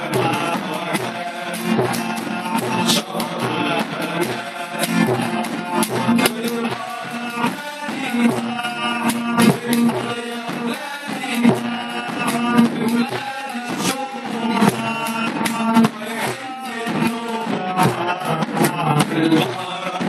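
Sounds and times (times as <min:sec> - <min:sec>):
men singing: 0:00.0 - 0:20.0.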